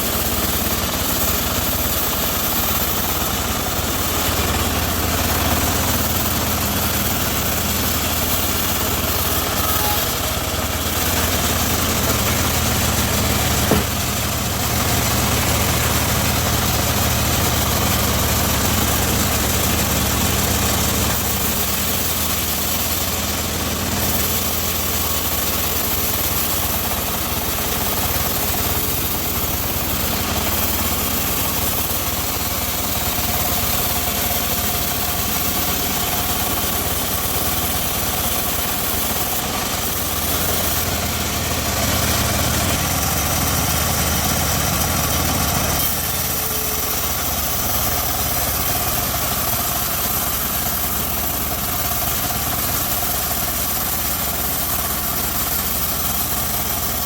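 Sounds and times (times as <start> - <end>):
bandsaw sawmill droning: 0.0 - 57.0.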